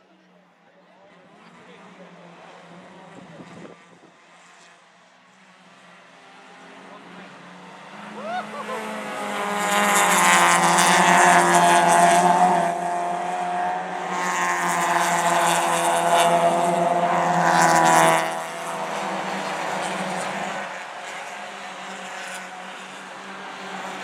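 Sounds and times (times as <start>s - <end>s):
racing car engines passing: 1.2s - 24.0s.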